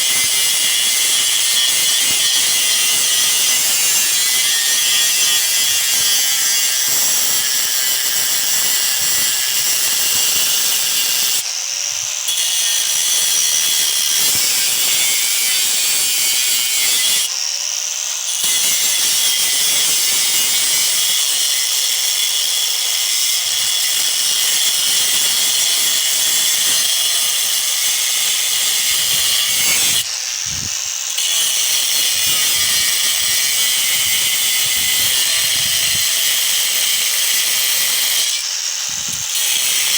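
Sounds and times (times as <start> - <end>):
cut-off wheel grinding metal: 0.0 - 39.9.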